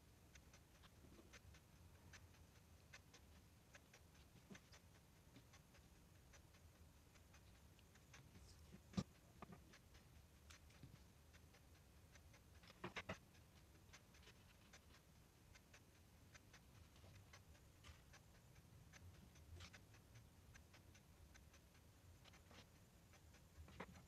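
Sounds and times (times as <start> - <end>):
faint ticks and clicks: 0.0 - 24.0.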